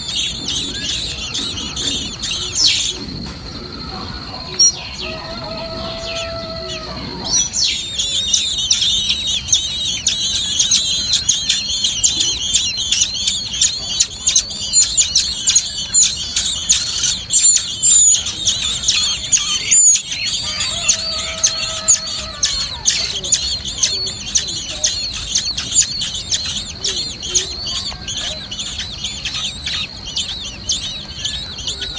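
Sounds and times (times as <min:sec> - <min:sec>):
nestlings cheeping: 0:00.0 - 0:31.9.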